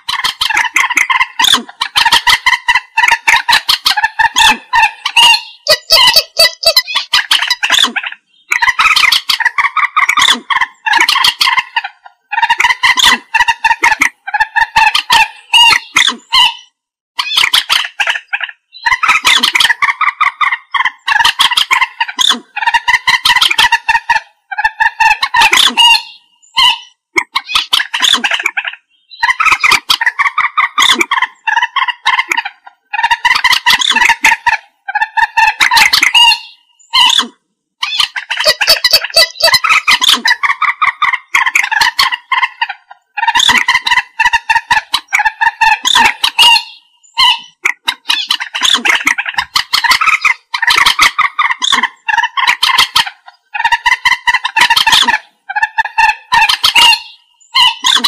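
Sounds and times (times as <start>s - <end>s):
moorhen chattering calls: 0.0s - 58.0s.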